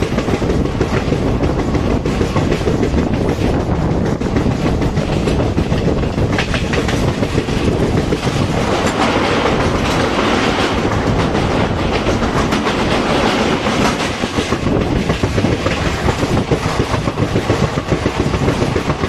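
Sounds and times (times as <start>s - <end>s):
clickety-clack over rail joints: 0.0s - 19.0s
train wheels rumbling on rail: 0.0s - 19.0s.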